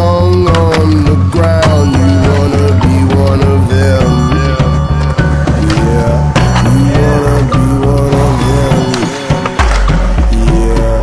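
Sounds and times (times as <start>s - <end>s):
soundtrack music with drums: 0.0s - 11.0s.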